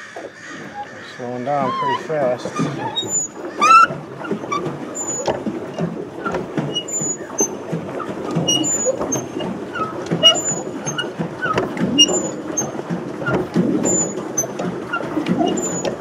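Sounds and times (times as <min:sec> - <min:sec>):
paddle wheel churning water: 0:00.0 - 0:16.0
squeaky pedal mechanism: 0:00.6 - 0:16.0.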